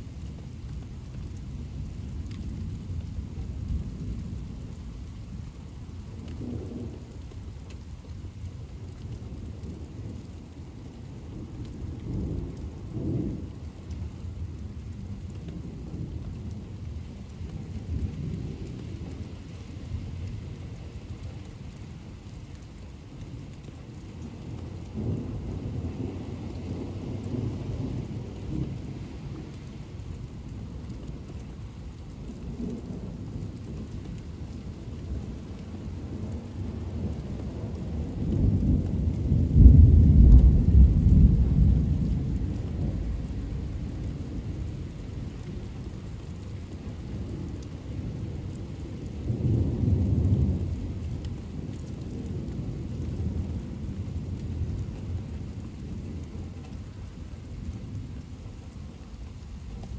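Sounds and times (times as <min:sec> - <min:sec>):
steady rain: 0:00.0 - 0:59.9
low rolling thunder: 0:01.6 - 0:07.2, 0:09.2 - 0:21.8, 0:23.7 - 0:59.9.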